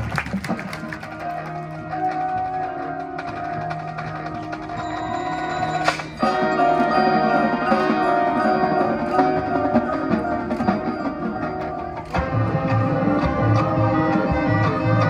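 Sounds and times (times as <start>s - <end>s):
marching band playing: 0.0s - 15.0s
mallet percussion: 0.4s - 15.0s.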